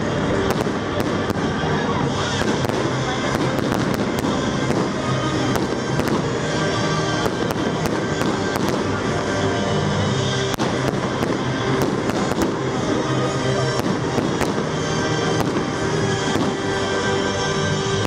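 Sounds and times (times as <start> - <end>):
fireworks bangs and crackling: 0.0 - 18.0
music: 0.0 - 18.0.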